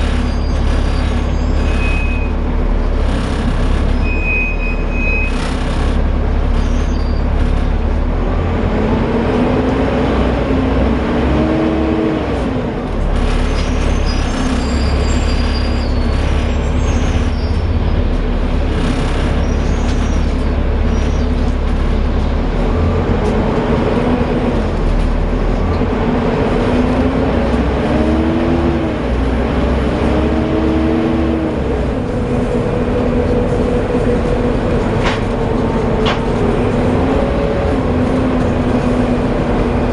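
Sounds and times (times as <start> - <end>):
bus gear whine: 0.0 - 39.9
diesel bus engine rumble: 0.0 - 39.9.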